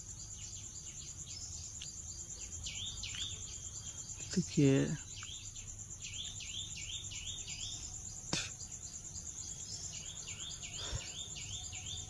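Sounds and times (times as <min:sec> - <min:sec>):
high chirping: 0:00.0 - 0:12.0.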